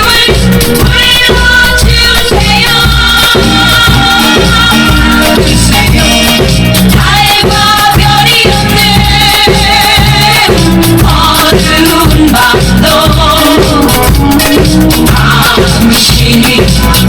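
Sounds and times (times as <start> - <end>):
drum kit playing: 0.0 - 17.0
recorded pop song with singing: 0.0 - 17.0.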